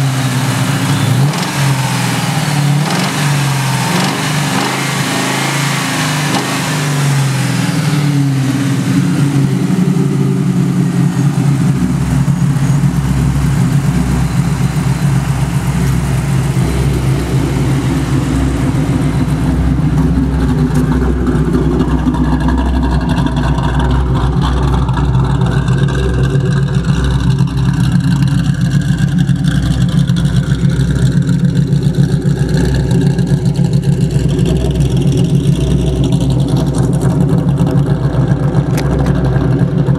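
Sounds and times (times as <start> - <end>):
car engine running loud: 0.0 - 39.9.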